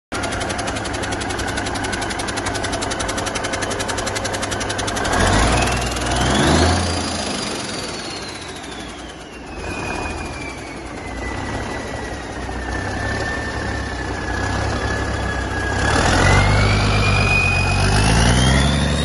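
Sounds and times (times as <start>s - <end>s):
diesel engine idle clatter: 0.1s - 19.0s
turbocharger whine: 0.1s - 19.0s.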